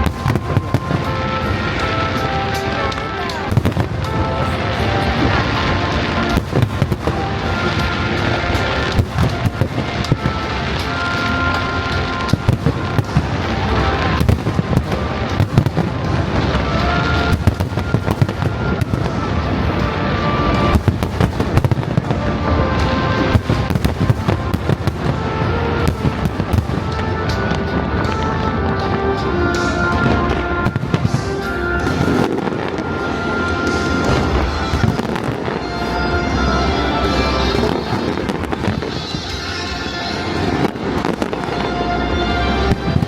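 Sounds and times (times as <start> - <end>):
fireworks bangs and crackles: 0.0 - 43.0
music playing: 0.0 - 43.0.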